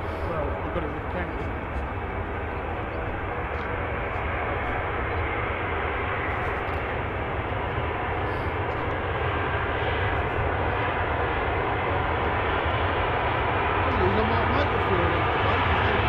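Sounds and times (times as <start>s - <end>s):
airliner engines roaring: 0.0s - 16.0s.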